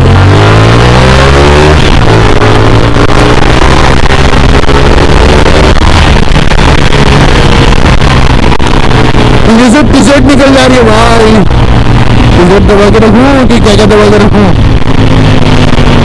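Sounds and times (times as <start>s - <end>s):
motorcycle engine accelerating: 0.0s - 16.0s
wind rush on microphone: 1.6s - 16.0s.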